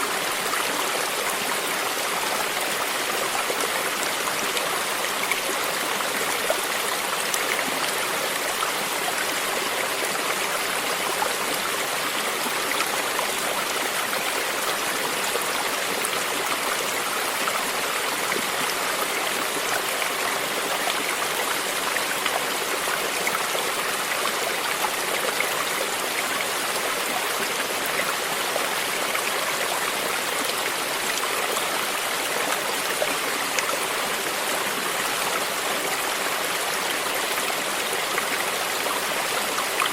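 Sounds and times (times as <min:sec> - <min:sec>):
small waterfall rushing: 0:00.0 - 0:39.9
stream water flowing: 0:00.0 - 0:39.9.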